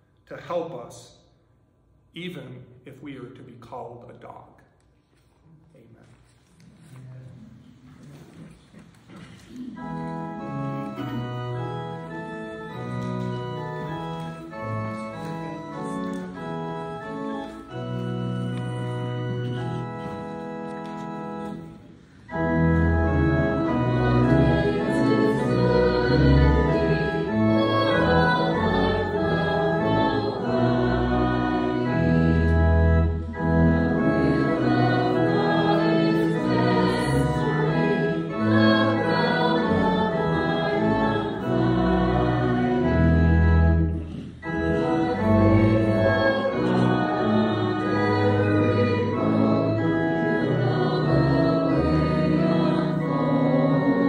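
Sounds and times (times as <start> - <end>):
congregation singing: 8.2 - 54.0
church organ playing a hymn: 9.1 - 54.0.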